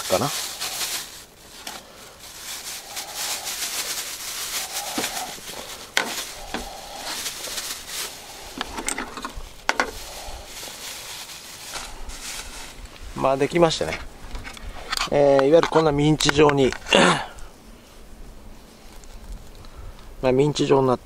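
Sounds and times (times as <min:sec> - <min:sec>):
plastic bag rustling: 0:00.0 - 0:19.6.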